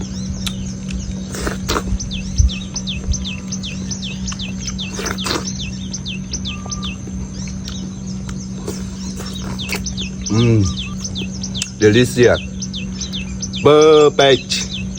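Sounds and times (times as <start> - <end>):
bird chirping falling notes: 0.0 - 14.9
steady low hum: 0.0 - 14.9.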